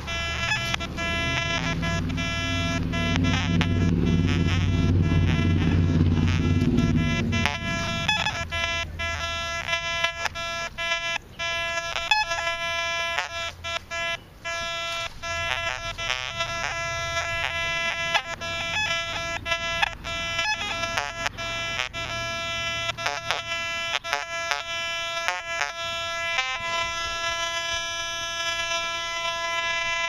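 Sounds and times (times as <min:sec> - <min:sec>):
metal detector beeping: 0:00.0 - 0:30.0.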